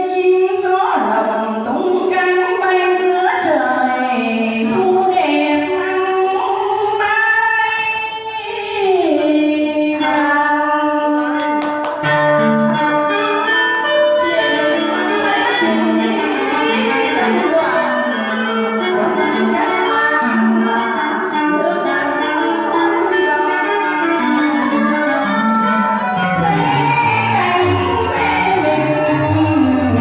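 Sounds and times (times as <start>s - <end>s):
woman singing: 0.0s - 11.9s, 14.1s - 30.0s
instrumental accompaniment: 0.0s - 30.0s.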